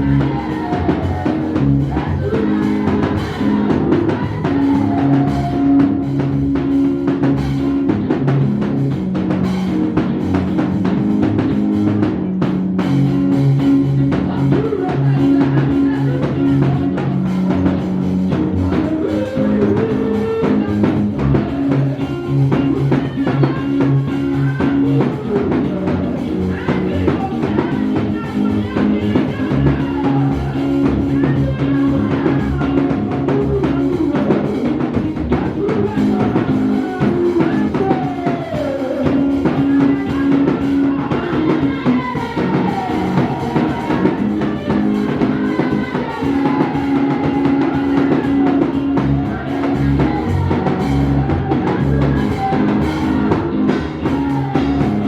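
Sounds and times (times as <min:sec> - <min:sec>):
bass: 0:00.0 - 0:55.0
drum kit: 0:00.0 - 0:55.0
guitar: 0:00.0 - 0:55.0.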